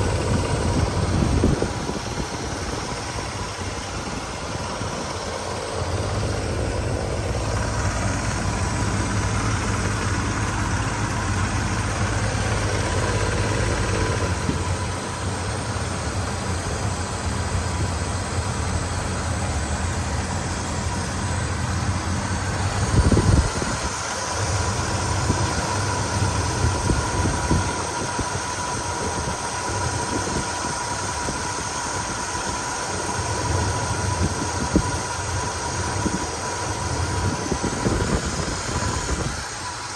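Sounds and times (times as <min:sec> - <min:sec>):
pickup truck engine idling: 0:00.0 - 0:39.9.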